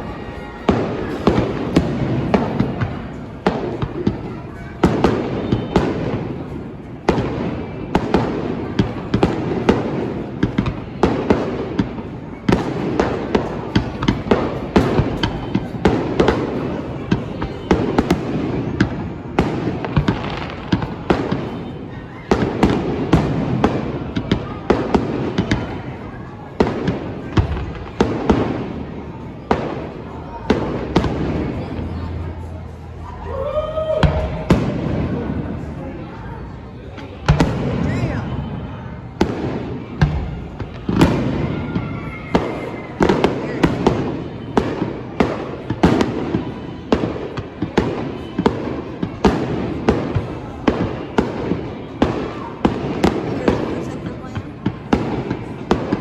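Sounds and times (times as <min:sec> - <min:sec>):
rumble of echoing explosions: 0:00.0 - 0:32.9, 0:34.0 - 0:56.0
fireworks bangs: 0:00.0 - 0:56.0.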